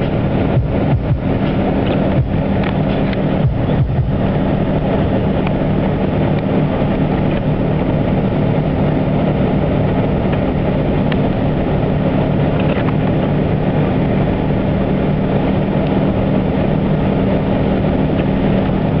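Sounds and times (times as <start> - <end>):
car engine and road noise: 0.0 - 19.0
constant low hum: 0.0 - 19.0.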